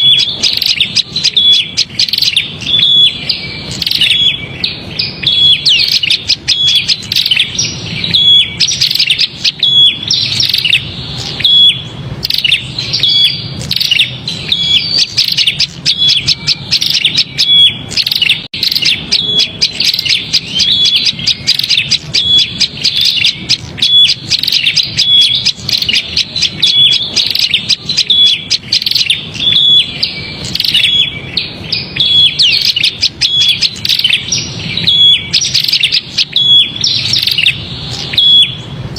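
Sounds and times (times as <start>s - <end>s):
bird chattering calls: 0.0s - 38.9s.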